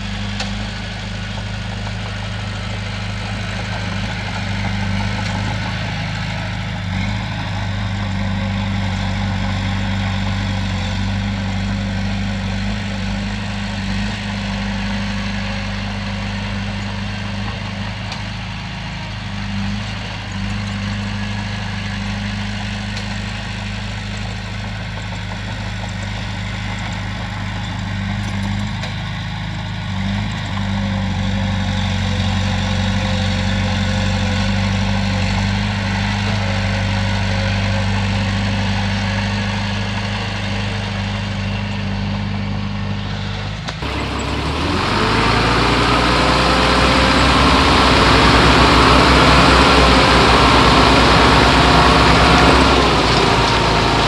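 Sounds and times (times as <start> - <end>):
bulldozer diesel engine humming: 0.0 - 54.0.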